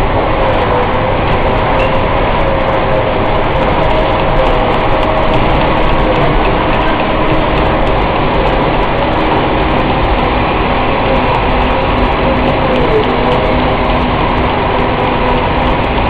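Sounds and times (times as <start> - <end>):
loud mechanical din: 0.0 - 16.0.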